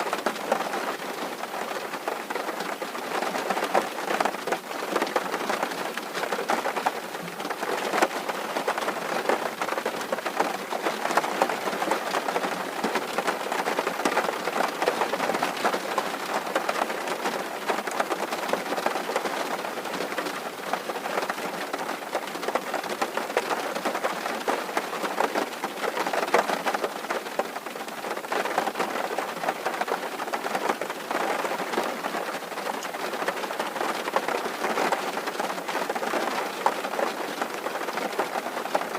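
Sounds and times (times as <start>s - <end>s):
rain on a tin roof: 0.0s - 38.9s.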